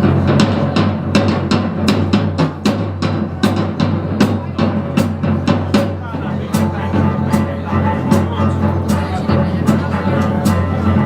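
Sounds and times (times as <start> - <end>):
drum kit beat: 0.0 - 11.0
low bass notes: 0.0 - 11.0.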